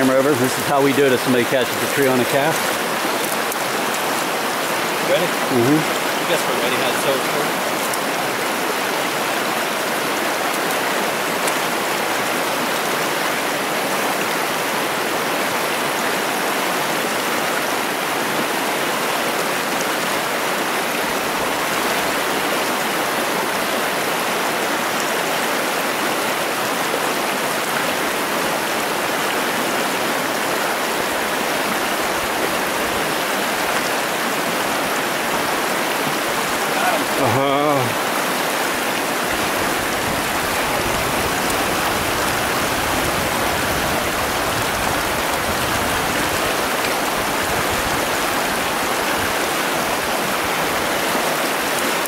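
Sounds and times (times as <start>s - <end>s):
stream water rushing over rocks: 0.0s - 52.0s.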